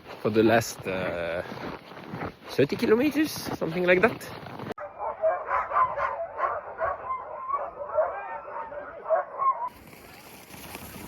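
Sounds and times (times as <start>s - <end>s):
sled dogs barking and yipping: 0.2s - 11.0s.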